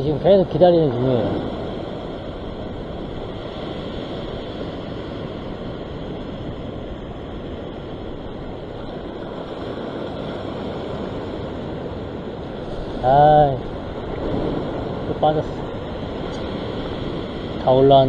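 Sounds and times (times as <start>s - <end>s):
sea surf washing over rocks: 0.0s - 18.0s
wind on microphone: 0.0s - 18.0s.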